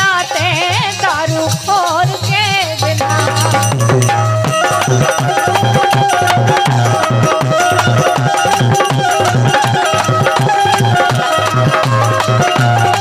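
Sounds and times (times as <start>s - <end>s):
hand drum rhythm: 0.0s - 13.0s
harmonium melody: 0.0s - 13.0s.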